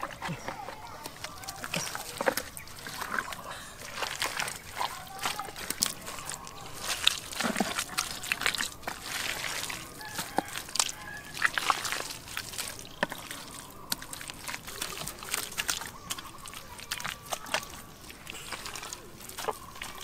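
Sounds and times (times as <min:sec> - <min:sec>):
sloshing in muddy water: 0:00.0 - 0:20.0.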